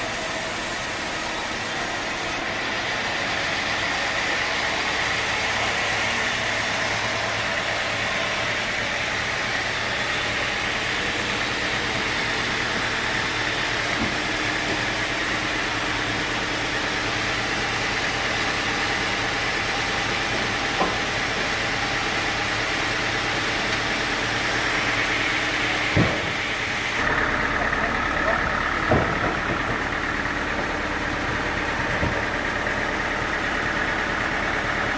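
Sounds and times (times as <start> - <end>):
engine drone: 0.0 - 34.9.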